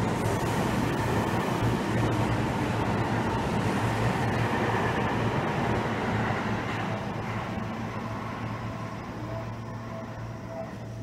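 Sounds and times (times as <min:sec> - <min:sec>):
electric train rumbling and humming: 0:00.0 - 0:11.0.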